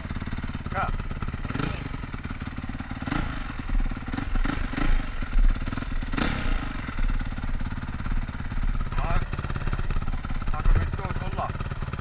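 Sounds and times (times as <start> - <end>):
motocross bike engine running: 0.0 - 12.0.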